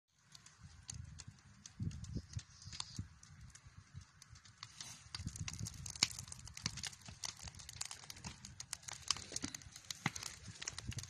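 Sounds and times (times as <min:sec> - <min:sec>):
wood fire crackling and popping: 0:00.1 - 0:11.0.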